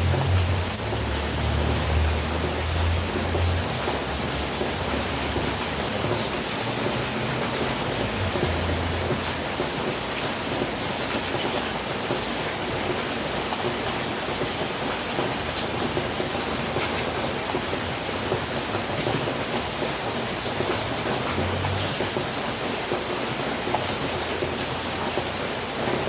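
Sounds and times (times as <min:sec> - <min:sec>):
rain on a roof: 0:00.0 - 0:26.0
raindrop ticks: 0:00.0 - 0:26.0.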